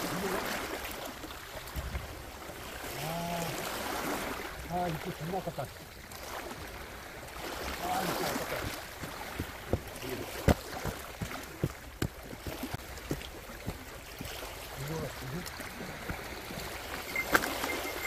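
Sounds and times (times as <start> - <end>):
sea water washing on rocks: 0.0 - 18.0.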